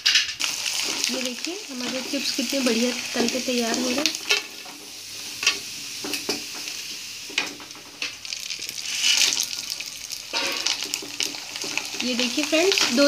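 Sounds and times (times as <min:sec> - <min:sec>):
chips sizzling in hot oil: 0:00.1 - 0:13.0.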